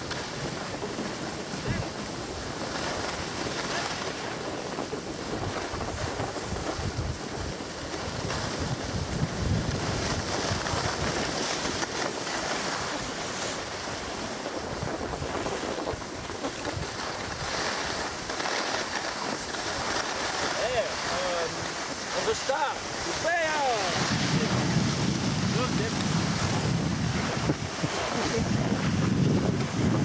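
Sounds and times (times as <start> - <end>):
skis hissing over snow: 0.0 - 30.0
wind rushing over microphone: 0.0 - 30.0.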